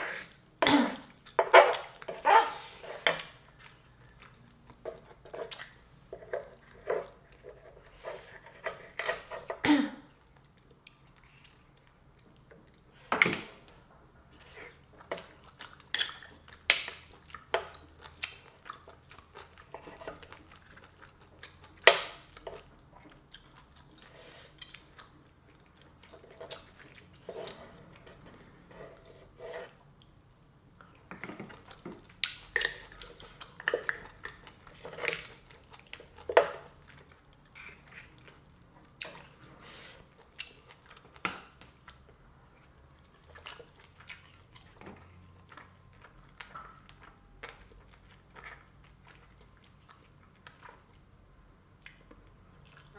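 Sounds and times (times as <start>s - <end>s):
chewing food: 0.0s - 52.9s.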